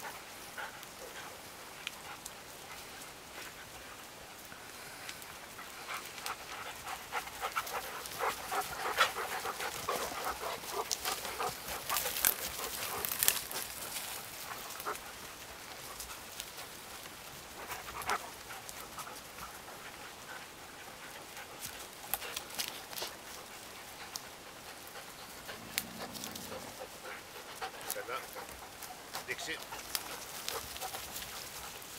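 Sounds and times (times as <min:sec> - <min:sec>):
crackles and rustles in undergrowth: 0:00.0 - 0:31.9
dogs panting: 0:00.0 - 0:31.9.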